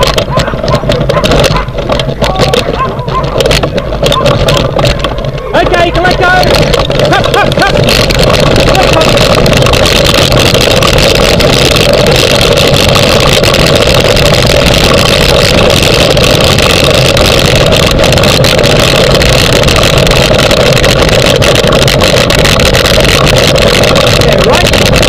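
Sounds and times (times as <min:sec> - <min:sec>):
wheeled rig rolling and rattling: 0:00.0 - 0:25.0.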